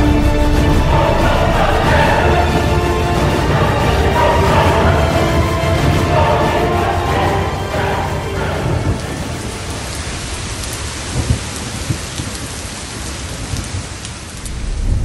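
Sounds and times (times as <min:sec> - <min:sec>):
heavy rain: 0:00.0 - 0:15.0
thunder rumbling: 0:00.0 - 0:15.0.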